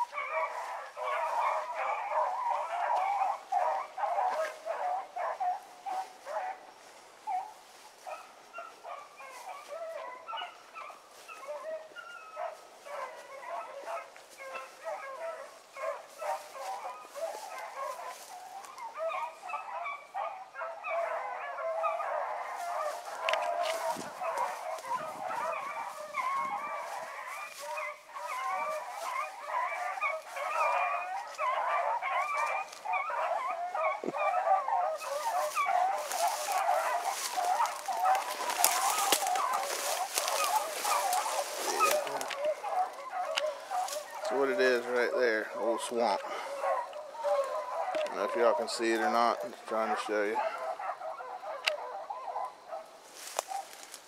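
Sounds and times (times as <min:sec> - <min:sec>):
pack of hounds baying: 0:00.0 - 0:54.0.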